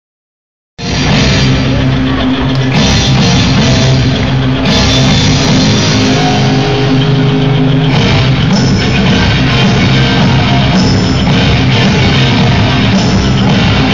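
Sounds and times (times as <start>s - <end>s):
rock music over sound system: 0.8s - 13.9s.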